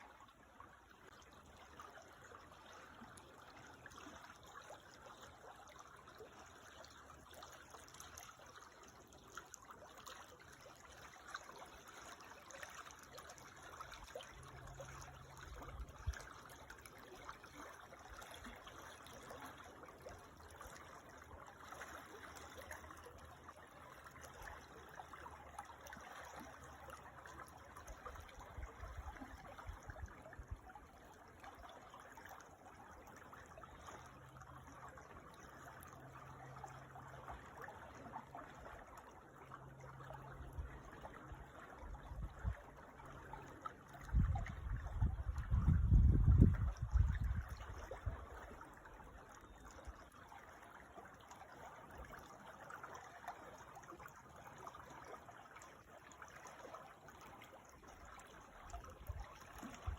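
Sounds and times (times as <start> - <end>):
creek water trickling over stones: 0.0 - 59.9.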